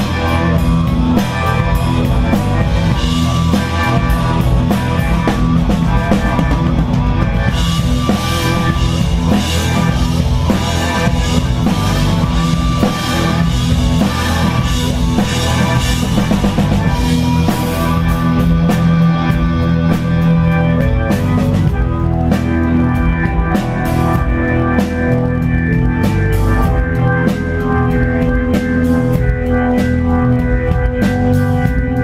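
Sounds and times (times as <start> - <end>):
drum kit beat: 0.0 - 32.0
keyboard tones: 0.0 - 32.0
sustained guitar: 0.0 - 32.0.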